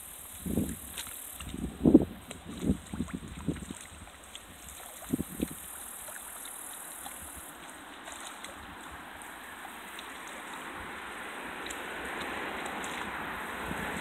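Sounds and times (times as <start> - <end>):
footsteps wading through water: 0.0 - 14.0.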